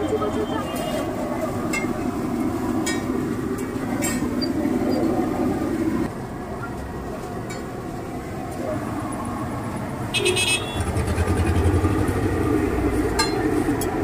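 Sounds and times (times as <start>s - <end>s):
street traffic engines: 0.0s - 14.0s.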